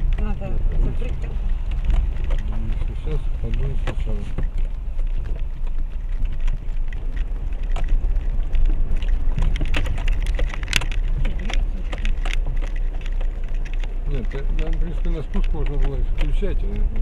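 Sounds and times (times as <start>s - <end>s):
low rumble of tyres and engine: 0.0s - 17.0s
stones clicking and rattling: 0.0s - 17.0s.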